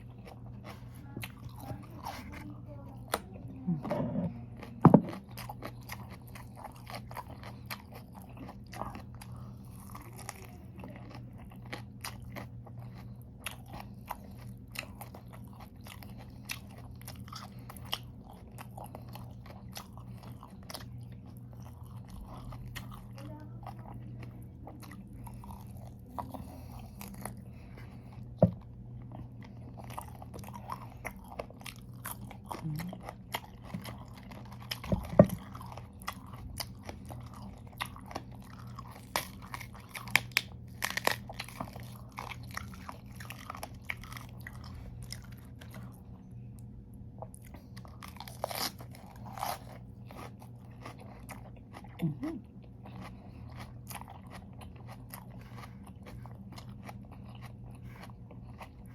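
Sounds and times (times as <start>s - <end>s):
crunchy chewing: 0.0s - 58.9s
steady low hum: 0.0s - 58.9s.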